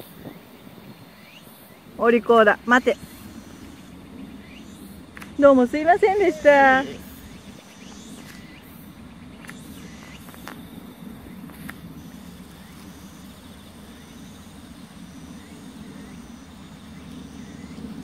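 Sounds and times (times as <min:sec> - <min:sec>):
insects chirring: 0:00.0 - 0:18.0
steady low rumble: 0:00.0 - 0:18.0.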